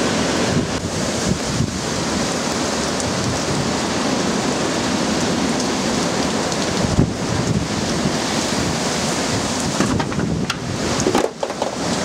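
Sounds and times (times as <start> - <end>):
wind gusting: 0.0 - 5.5, 6.2 - 12.0
heavy rain downpour: 0.0 - 12.0.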